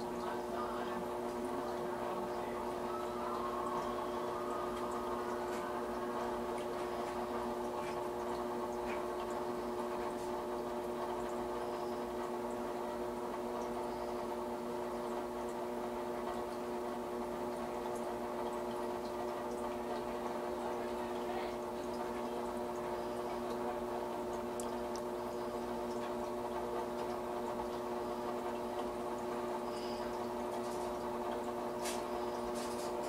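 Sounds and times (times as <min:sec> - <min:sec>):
motor hum: 0:00.0 - 0:33.0
water trickling: 0:00.0 - 0:33.0.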